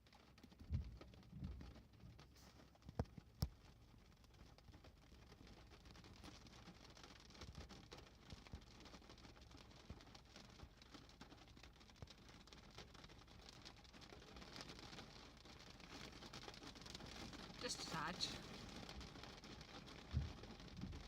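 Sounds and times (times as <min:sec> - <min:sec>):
raindrops ticking: 0:00.0 - 0:21.0
low rain hiss: 0:01.8 - 0:21.0.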